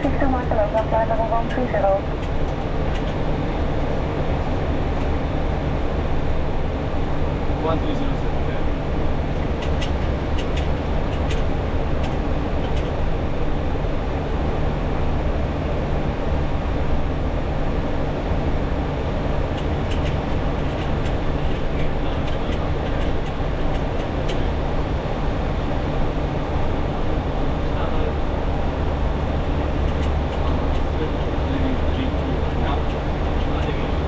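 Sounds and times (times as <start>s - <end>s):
aircraft engine and airflow drone: 0.0s - 34.0s.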